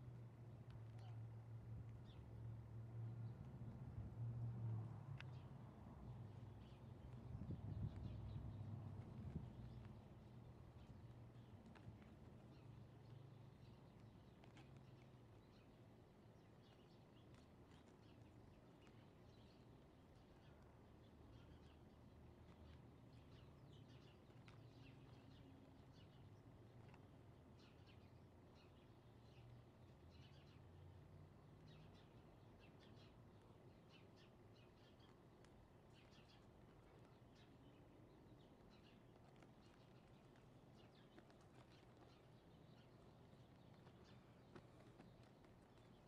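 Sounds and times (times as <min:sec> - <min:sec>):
faint high chirps and ticks: 0:05.1 - 0:46.0.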